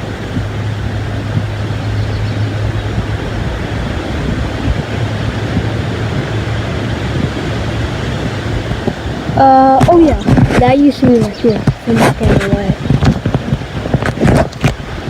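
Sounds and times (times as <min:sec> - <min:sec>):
low hum: 0:00.0 - 0:15.0
wind on microphone: 0:00.0 - 0:15.0.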